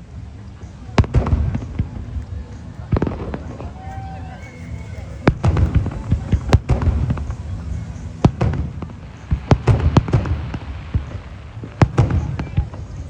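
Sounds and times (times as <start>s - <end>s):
low rumble: 0.0s - 13.0s
fireworks bangs: 0.8s - 13.0s.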